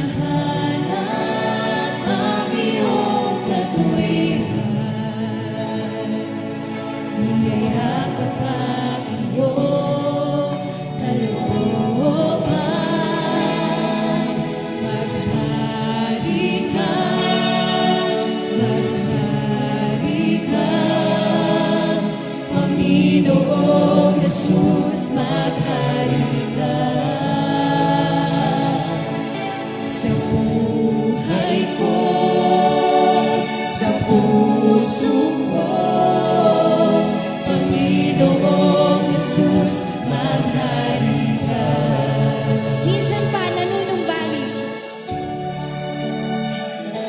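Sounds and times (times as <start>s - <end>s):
woman singing lead: 0.0s - 45.7s
worship band playing: 0.0s - 47.0s.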